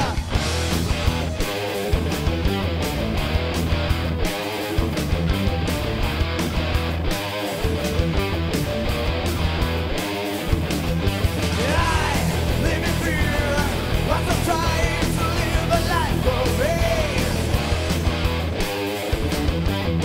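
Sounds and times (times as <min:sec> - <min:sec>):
rock music with guitar and drums: 0:00.0 - 0:20.0.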